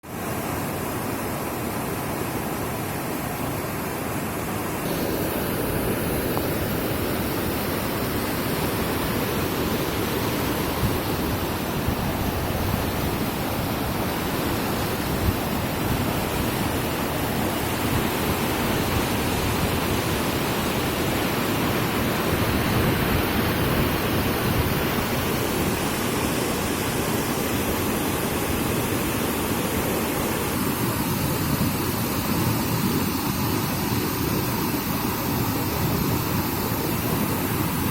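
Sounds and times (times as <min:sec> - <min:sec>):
flowing water rushing: 0:00.0 - 0:37.9.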